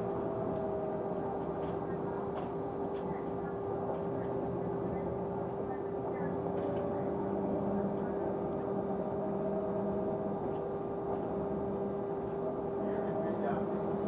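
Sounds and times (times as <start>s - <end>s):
steady whine: 0.0s - 14.0s.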